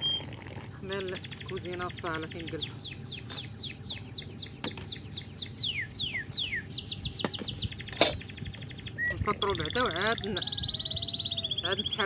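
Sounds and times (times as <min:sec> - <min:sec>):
songbird singing high notes: 0:00.0 - 0:12.0.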